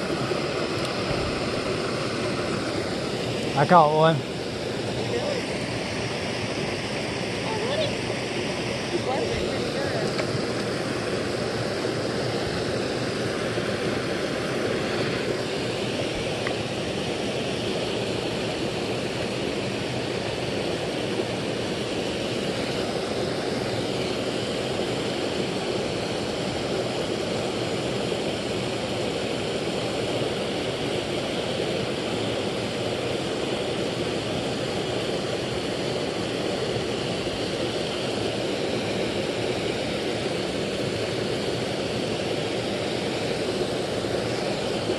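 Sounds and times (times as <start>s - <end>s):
small waterfall rushing: 0.0s - 44.9s.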